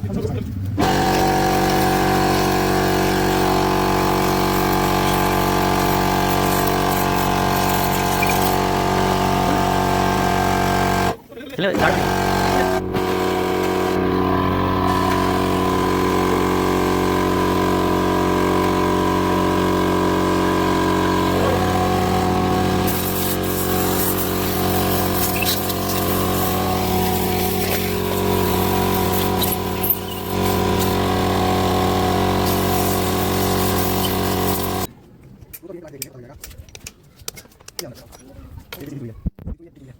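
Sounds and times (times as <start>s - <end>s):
air compressor running: 0.8s - 34.9s.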